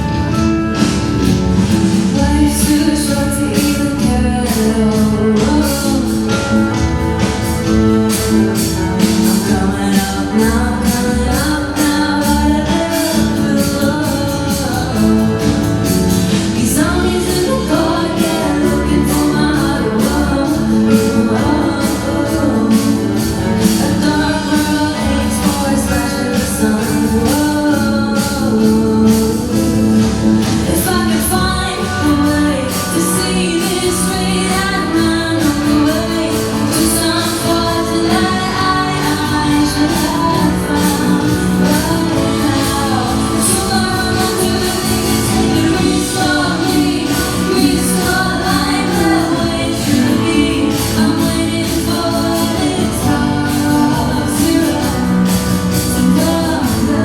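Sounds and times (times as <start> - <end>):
drums keeping a steady beat: 0.0 - 57.0
instrumental accompaniment: 0.0 - 57.0
person singing live: 0.0 - 57.0.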